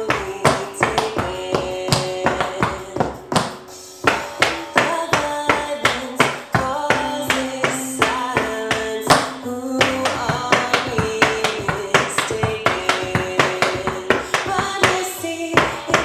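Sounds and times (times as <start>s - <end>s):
tap shoes on wooden board: 0.0s - 3.5s, 4.1s - 16.0s
song with singing and guitar: 0.0s - 16.0s.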